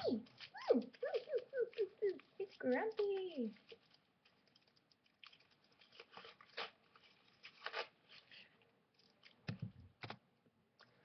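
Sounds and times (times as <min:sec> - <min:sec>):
package crinkling and rustling: 0:00.0 - 0:10.2.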